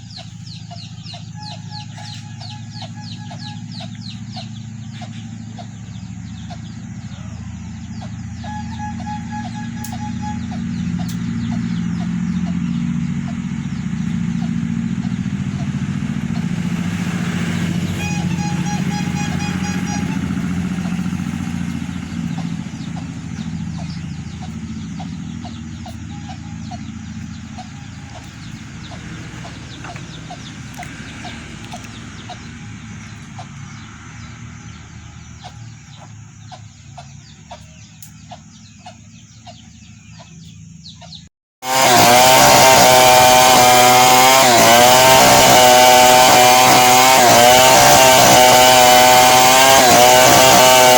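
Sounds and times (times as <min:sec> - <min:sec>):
chainsaw cutting wood: 0:00.0 - 0:34.6, 0:41.6 - 0:50.9
low engine hum: 0:00.0 - 0:41.3.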